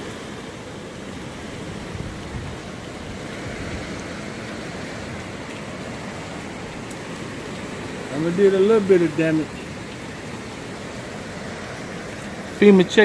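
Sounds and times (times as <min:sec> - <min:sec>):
hurricane wind with rain: 0:00.0 - 0:13.0.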